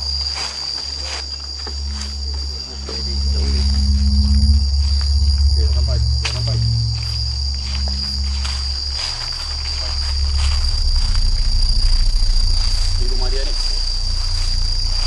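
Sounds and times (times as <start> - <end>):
crickets trilling: 0.0 - 15.0
low droning hum: 0.0 - 15.0.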